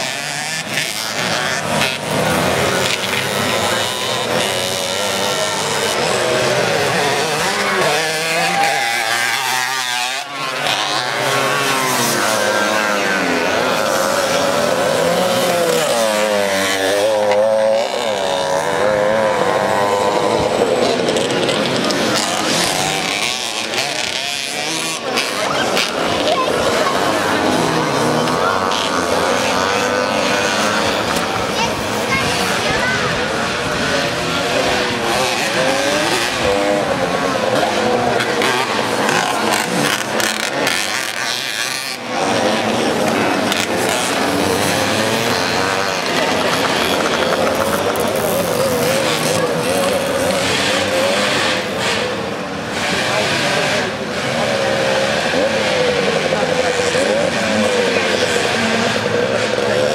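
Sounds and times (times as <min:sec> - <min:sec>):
motorcycles revving past: 0:00.0 - 0:59.9.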